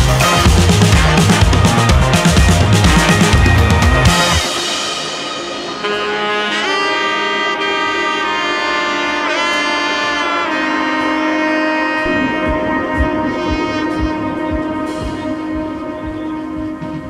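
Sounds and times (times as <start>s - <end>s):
melody of long held notes: 0.0s - 17.0s.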